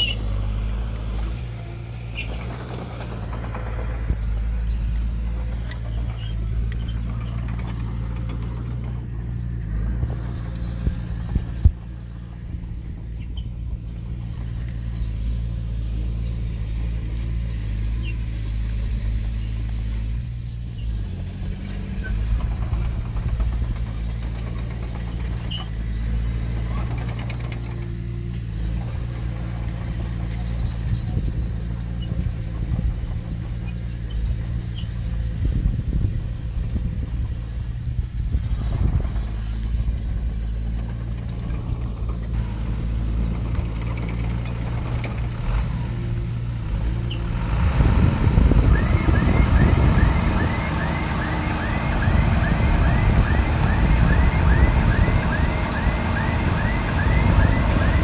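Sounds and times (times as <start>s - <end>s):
light metallic clicks and squeaks: 0.0s - 35.4s, 38.6s - 54.6s
diesel engine running: 0.0s - 58.0s.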